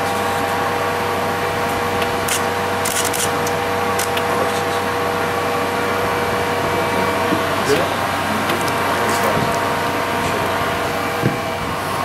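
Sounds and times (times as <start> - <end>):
machinery hum with rushing air: 0.0 - 12.0.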